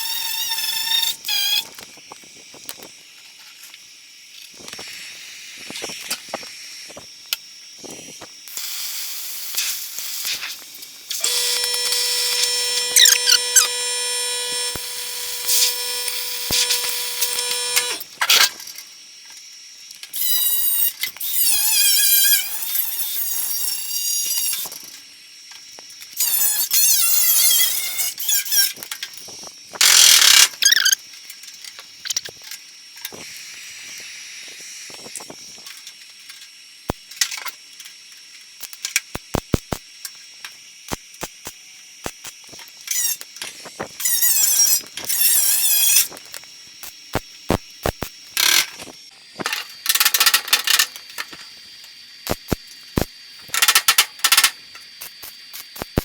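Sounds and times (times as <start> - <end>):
squealing welding arc: 0.0 - 3.0, 4.3 - 19.0, 19.8 - 36.2, 36.9 - 56.0.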